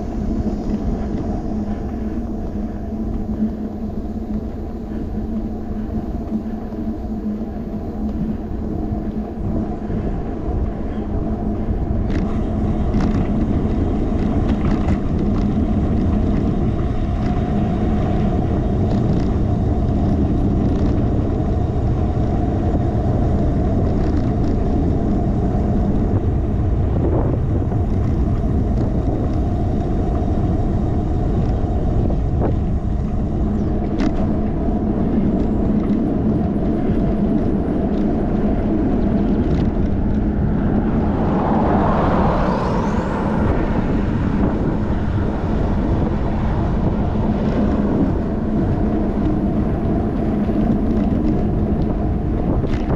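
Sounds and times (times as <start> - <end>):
bicycle tyre and wind rumble: 0.0 - 52.9
constant hum: 0.0 - 52.9.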